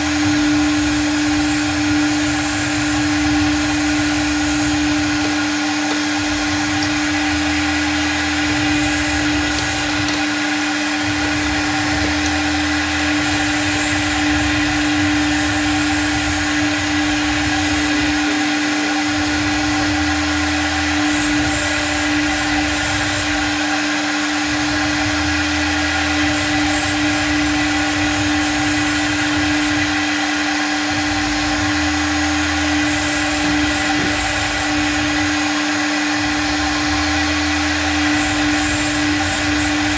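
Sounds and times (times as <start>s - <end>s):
bit cutting sheet: 0.0s - 39.9s
router spindle whine: 0.0s - 39.9s.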